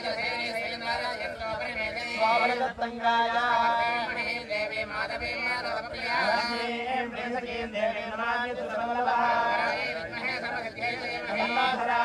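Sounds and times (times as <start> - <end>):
men chanting together: 0.0 - 12.0.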